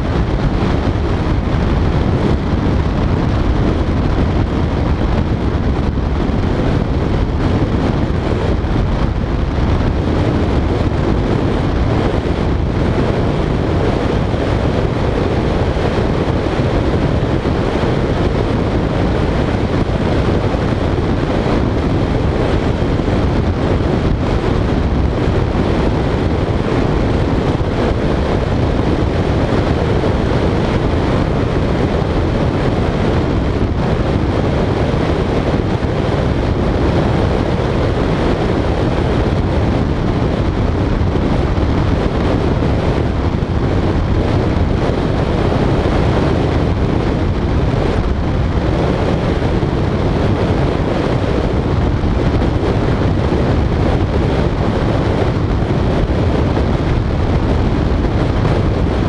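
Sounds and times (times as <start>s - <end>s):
vehicle road noise: 0.0s - 59.0s
wind rush on microphone: 0.0s - 59.0s.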